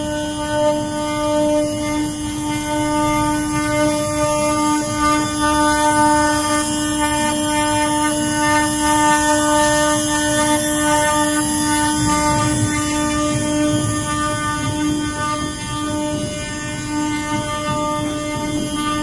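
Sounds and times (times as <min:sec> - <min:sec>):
router bit cutting wood: 0:00.0 - 0:19.0
router spindle high whine: 0:00.0 - 0:19.0.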